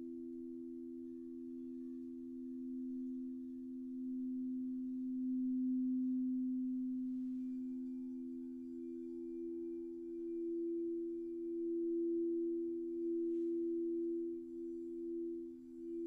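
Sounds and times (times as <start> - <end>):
crystal singing bowls ringing: 0.0 - 16.0.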